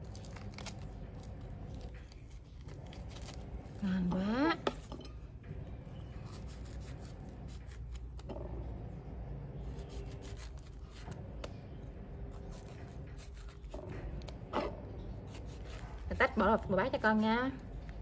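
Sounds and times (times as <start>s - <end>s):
knife cutting fruit rind: 0.0s - 5.1s, 5.9s - 8.6s, 9.6s - 18.0s
low steady hum: 0.0s - 18.0s.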